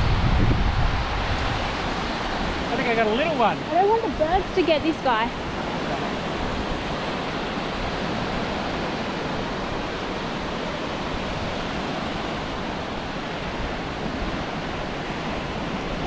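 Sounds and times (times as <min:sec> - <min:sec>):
small waves washing on beach: 0:00.0 - 0:16.0.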